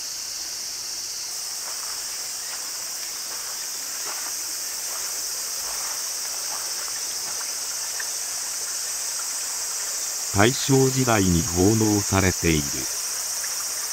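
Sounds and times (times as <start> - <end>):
insects shrilling: 0.0 - 13.9.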